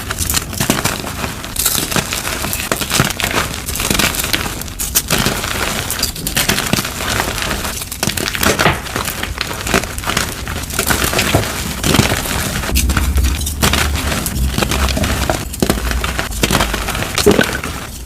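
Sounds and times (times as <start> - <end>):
chalk crunching and crumbling: 0.0 - 18.0.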